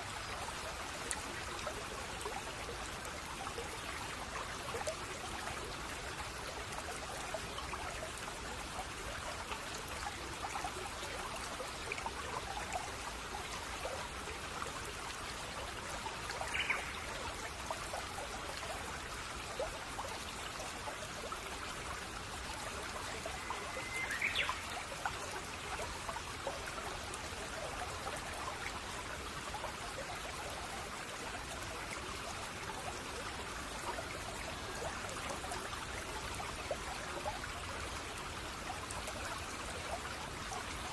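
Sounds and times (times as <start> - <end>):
brook trickling over stones: 0.0 - 40.9.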